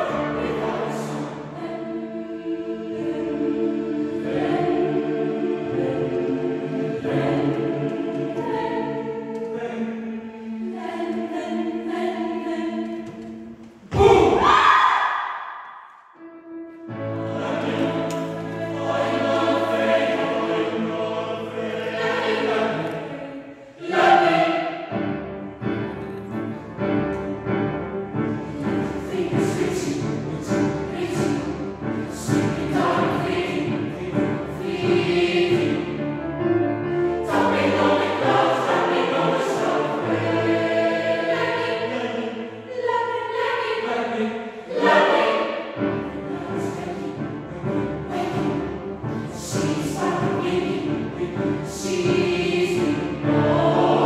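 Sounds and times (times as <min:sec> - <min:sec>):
mixed choir singing: 0:00.0 - 0:15.6, 0:16.9 - 0:54.0.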